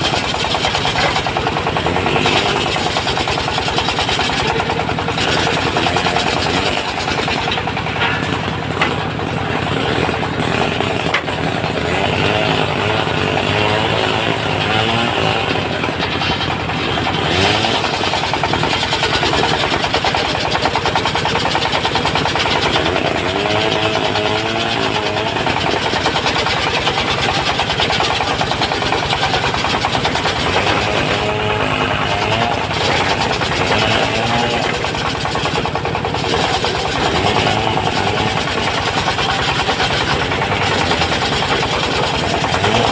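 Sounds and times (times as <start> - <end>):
circular saw ripping a beam: 0.0 - 42.9
sawmill engine running: 0.0 - 42.9.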